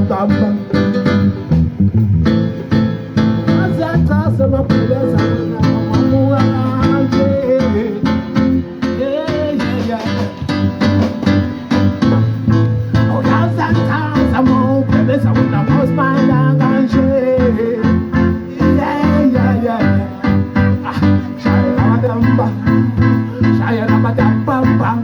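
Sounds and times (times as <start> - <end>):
live band music with guitar: 0.0 - 25.0.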